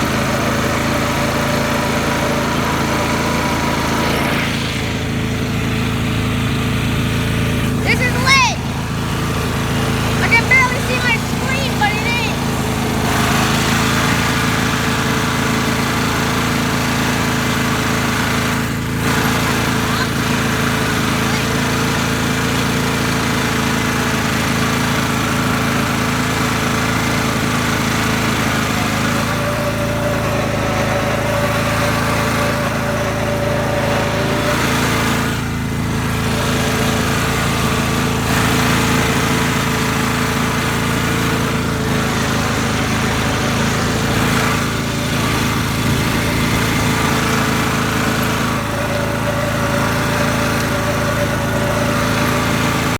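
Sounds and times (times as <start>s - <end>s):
small tractor engine running: 0.0s - 52.9s.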